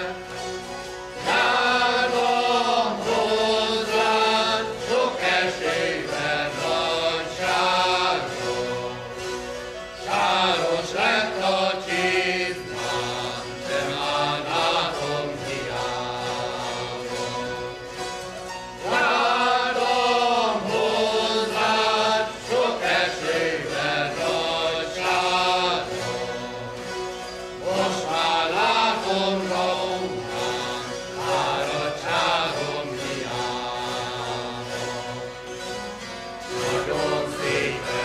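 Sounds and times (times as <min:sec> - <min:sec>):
group singing a folk song: 0:00.0 - 0:38.0.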